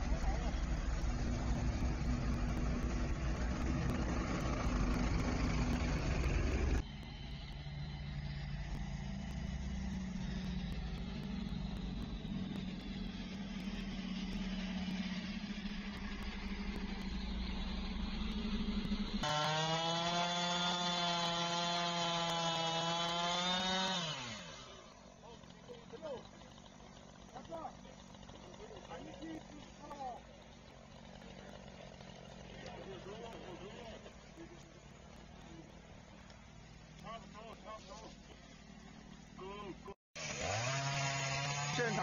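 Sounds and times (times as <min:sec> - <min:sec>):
chainsaw at high revs: 0:00.0 - 0:42.0
fire engines droning: 0:00.0 - 0:42.0.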